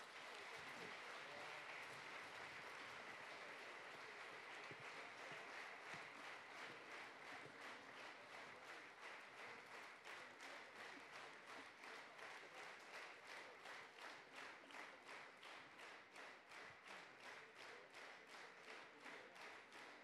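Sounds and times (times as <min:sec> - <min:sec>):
audience clapping in unison: 0:00.0 - 0:20.0.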